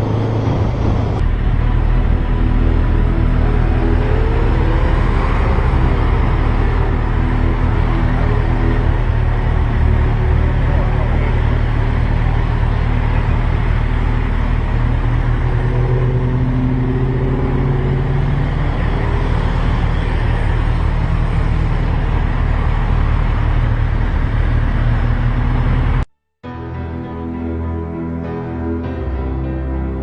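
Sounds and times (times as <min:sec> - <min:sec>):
dense rushing noise: 0:00.0 - 0:26.0.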